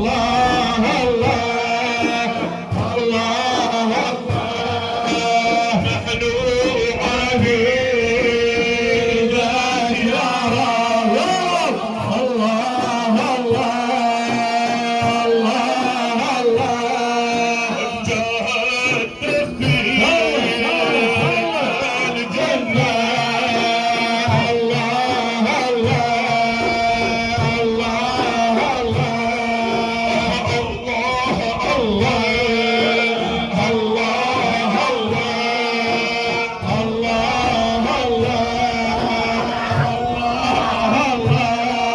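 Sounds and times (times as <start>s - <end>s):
drum beats: 0.0s - 41.9s
men chanting religious praise: 0.0s - 41.9s.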